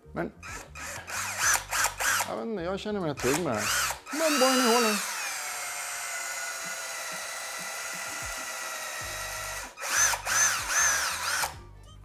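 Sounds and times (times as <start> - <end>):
cordless drill boring into wood: 0.4 - 2.4, 3.2 - 11.6.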